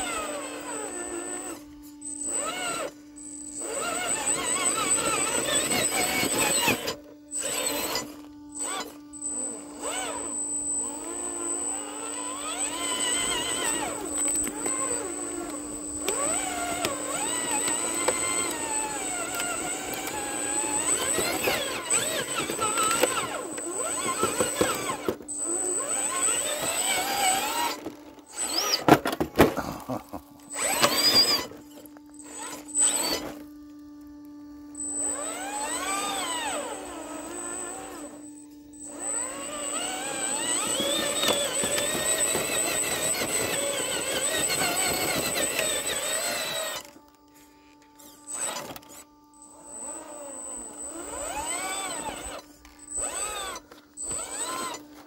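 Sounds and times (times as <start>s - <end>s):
toy car electric motor whining: 0.0s - 55.0s.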